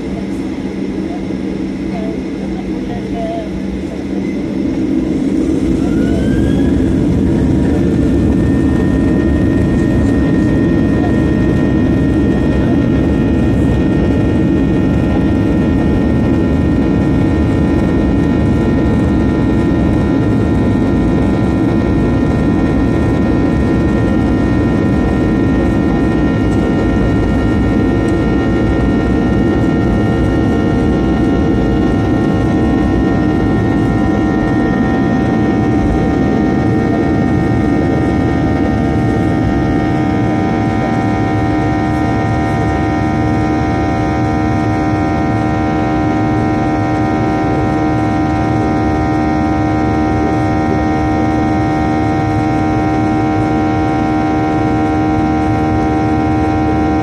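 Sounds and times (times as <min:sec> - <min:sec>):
jet engines whining: 0:00.0 - 0:57.0
loud steady rumble: 0:00.0 - 0:57.0.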